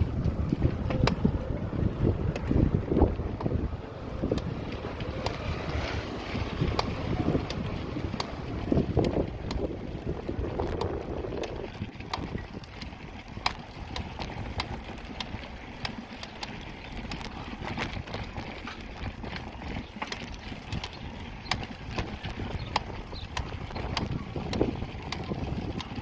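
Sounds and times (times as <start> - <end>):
bicycle frame rattling: 0.0 - 26.0
bicycle rolling over paving stones: 0.0 - 26.0
low road and wind rumble: 0.0 - 26.0.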